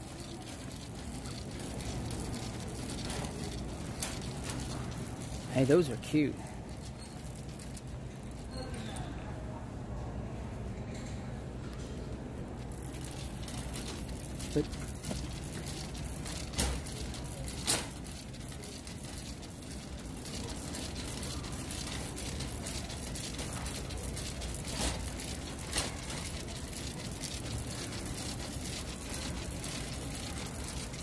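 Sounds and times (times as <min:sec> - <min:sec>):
store background hum: 0:00.0 - 0:31.0.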